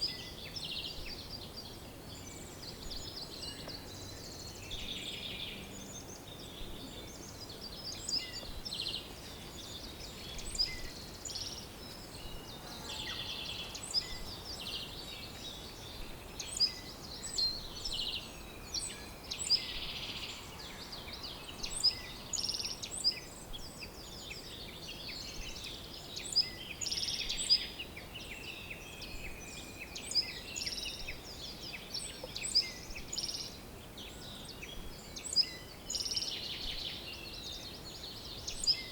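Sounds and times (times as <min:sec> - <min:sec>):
faint steady hiss: 0:00.0 - 0:38.9
small birds chirping and trilling: 0:00.0 - 0:38.9.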